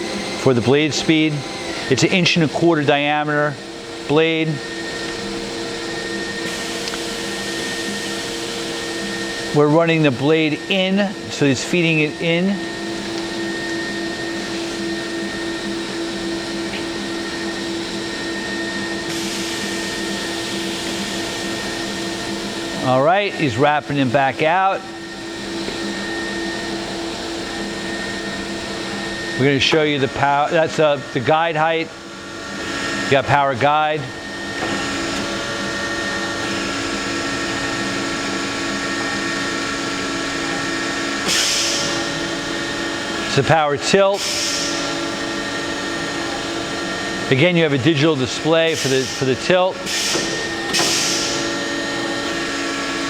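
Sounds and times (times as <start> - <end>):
band saw humming and whining: 0.0 - 53.0.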